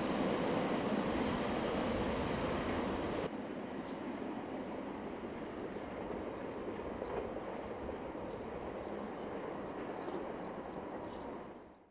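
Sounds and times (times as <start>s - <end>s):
freight train rumbling on rails: 0.0s - 11.9s.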